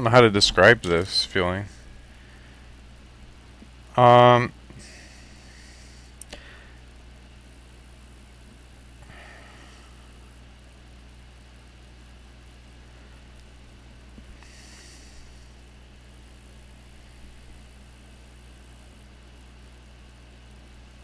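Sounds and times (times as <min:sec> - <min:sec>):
background hiss: 0:00.0 - 0:21.0
low electrical hum: 0:00.0 - 0:21.0.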